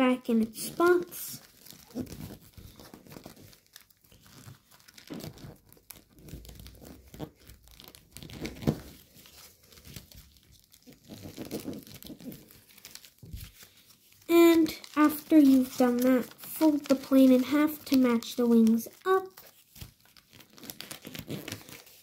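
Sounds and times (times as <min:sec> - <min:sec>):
foil paper crinkling: 0:00.3 - 0:22.0.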